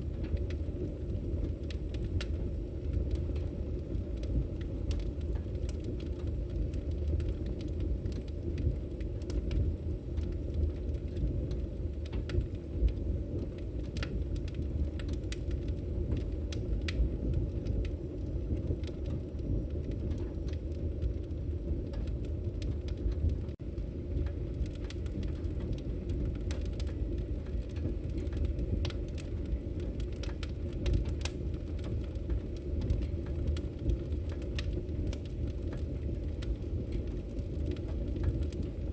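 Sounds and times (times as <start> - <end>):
fire burning rumble: 0.0 - 38.9
fire pops and snaps: 0.0 - 38.9.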